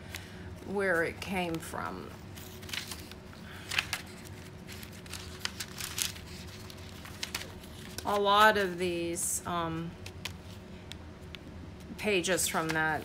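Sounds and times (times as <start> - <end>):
faint steady hum: 0.0 - 13.0
paper pages rustling and turning: 0.9 - 8.8, 10.0 - 13.0.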